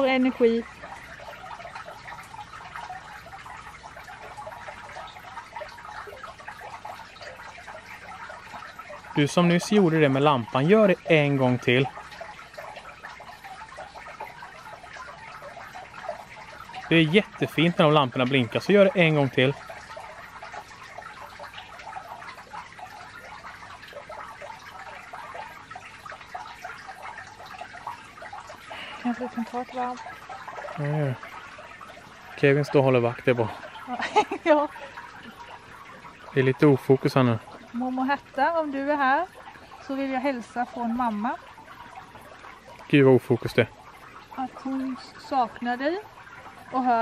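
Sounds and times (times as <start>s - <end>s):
fountain water trickling and splashing: 0.0s - 47.0s.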